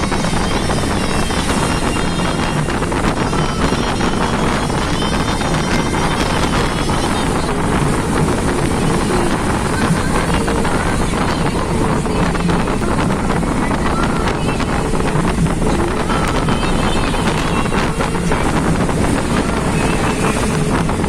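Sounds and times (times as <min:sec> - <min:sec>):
vehicle running on road: 0:00.0 - 0:21.0
wind rushing over microphone: 0:00.0 - 0:21.0.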